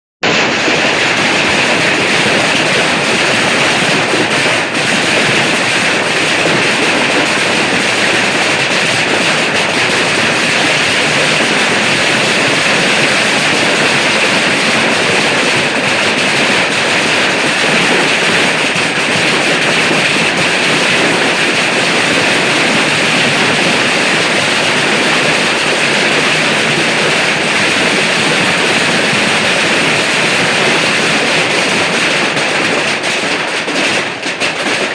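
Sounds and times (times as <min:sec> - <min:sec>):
heavy rain rushing: 0:00.2 - 0:34.9.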